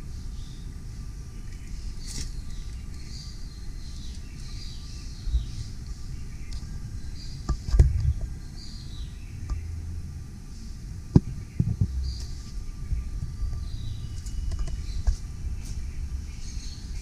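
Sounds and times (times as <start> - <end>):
low rumble of handling noise: 0.0 - 17.0.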